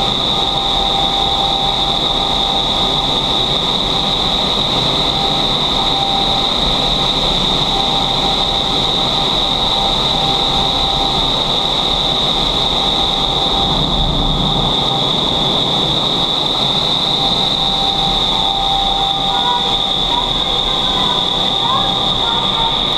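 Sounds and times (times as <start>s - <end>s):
high-pitched whine: 0.0s - 22.9s
rush of air: 0.0s - 22.9s.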